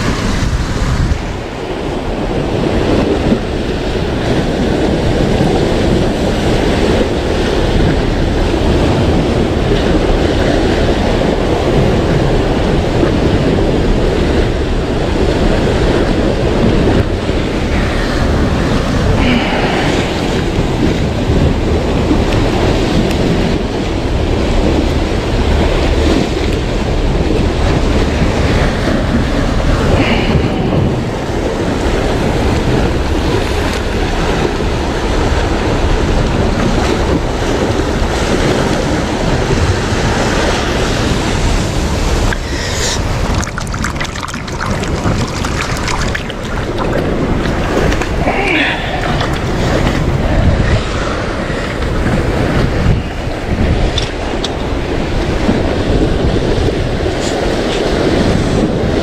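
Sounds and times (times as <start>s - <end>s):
sea waves and surf: 0.0s - 59.0s
wind buffeting microphone: 0.0s - 59.0s.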